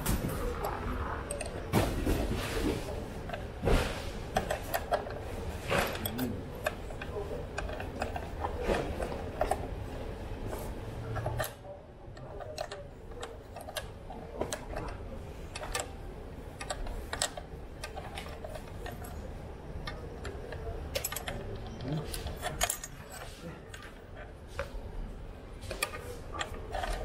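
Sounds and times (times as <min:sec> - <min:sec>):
metal parts clicking and tapping: 0:00.0 - 0:24.8, 0:25.5 - 0:27.0.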